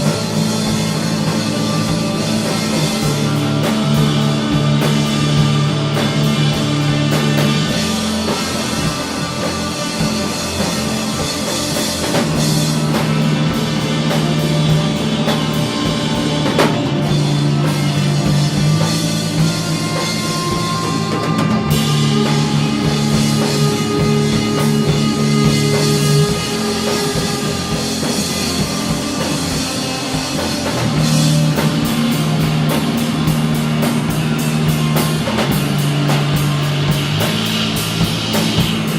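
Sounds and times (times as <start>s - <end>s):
drum kit: 0.0s - 38.9s
guitars and synthesizer low notes: 0.0s - 38.9s.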